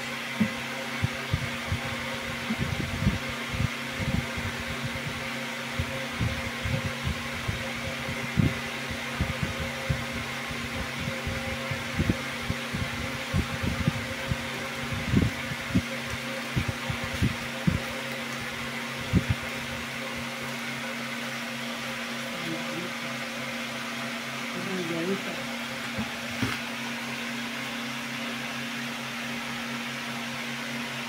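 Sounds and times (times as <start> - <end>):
motor-driven appliance humming: 0.0 - 31.0.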